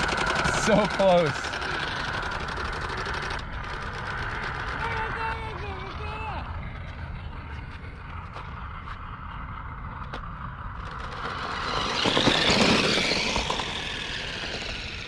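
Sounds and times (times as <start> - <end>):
toy truck rushing on concrete: 0.0 - 15.0.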